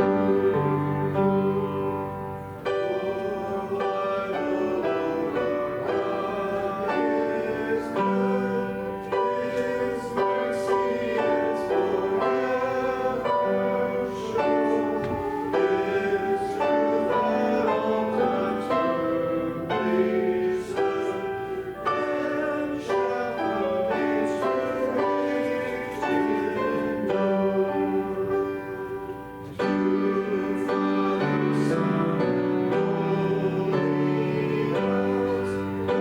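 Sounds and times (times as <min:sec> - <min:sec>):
congregation singing a hymn: 0:00.0 - 0:36.0
piano chords: 0:00.0 - 0:36.0.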